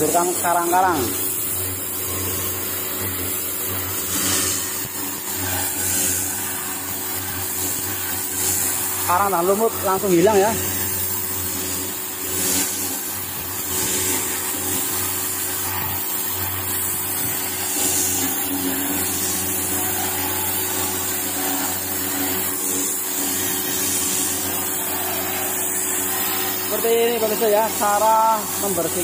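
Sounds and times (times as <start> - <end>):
machine hum: 0.0 - 29.0
water jet hissing against hull: 0.0 - 29.0.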